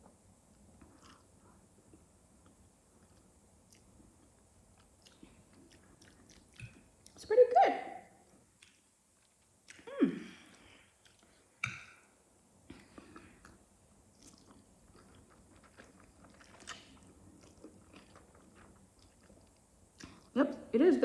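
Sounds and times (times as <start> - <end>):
chewing: 0.5 - 7.2, 8.2 - 11.5, 12.7 - 20.3.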